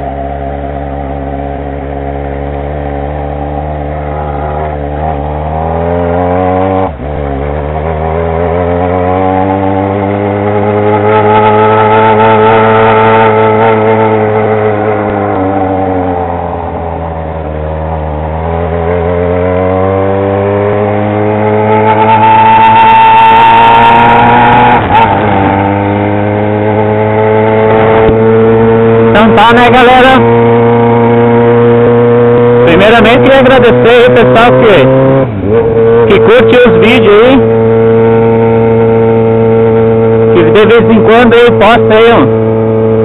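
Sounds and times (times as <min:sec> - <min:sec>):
motorcycle engine revving loudly: 0:00.0 - 0:43.0.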